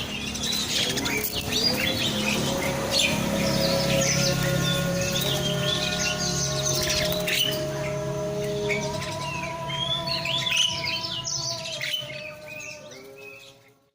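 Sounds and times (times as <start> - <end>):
starling chirping and whistling: 0.0 - 13.6.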